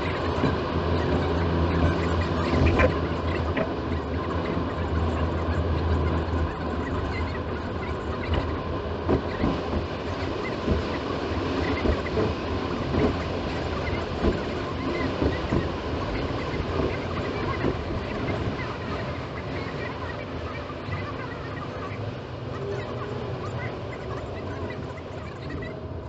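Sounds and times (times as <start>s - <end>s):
car road and engine noise: 0.0s - 26.0s
low hum: 0.0s - 26.0s.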